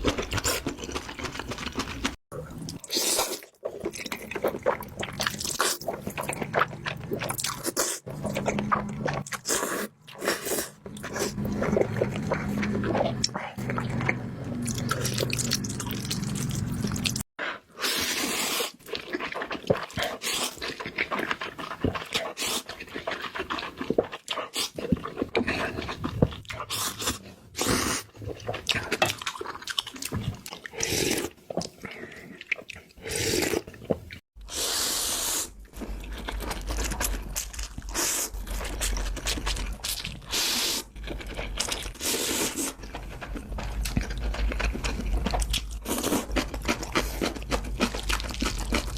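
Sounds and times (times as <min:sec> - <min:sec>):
chewing with wet mouth noises: 0:00.0 - 0:17.3, 0:18.6 - 0:34.2, 0:35.6 - 0:48.9
noodles being slurped: 0:00.0 - 0:48.9.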